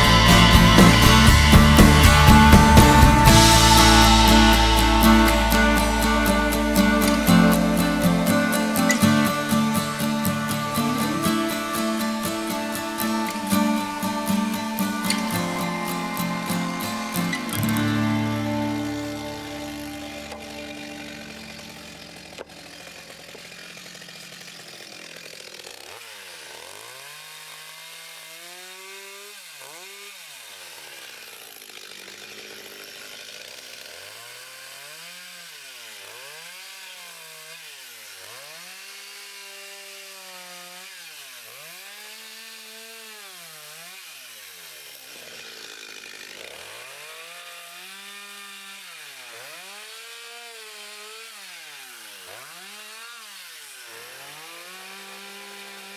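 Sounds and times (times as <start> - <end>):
chainsaw revving cutting wood: 0.0 - 55.9.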